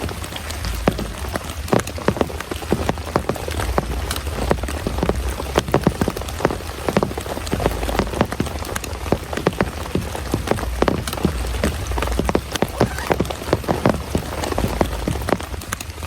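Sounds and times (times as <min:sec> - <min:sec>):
heavy rain: 0:00.0 - 0:16.0
raindrops striking a surface: 0:00.0 - 0:16.0.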